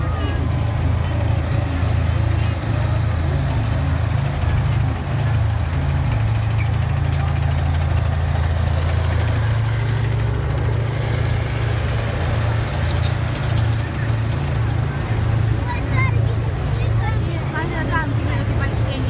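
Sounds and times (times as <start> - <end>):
tracked vehicles diesel drone: 0.0 - 19.0.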